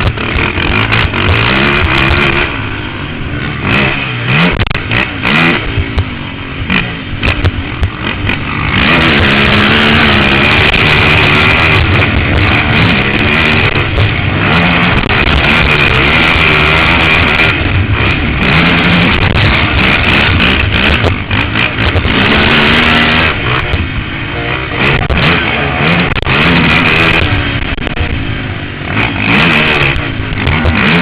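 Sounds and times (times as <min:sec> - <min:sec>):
quad engine revving: 0:00.0 - 0:31.0.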